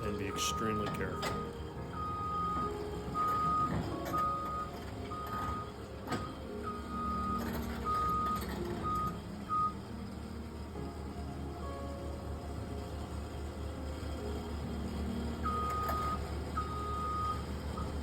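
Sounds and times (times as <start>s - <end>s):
diesel engine running: 0.0s - 18.0s
excavator travel alarm beeping: 0.0s - 18.0s.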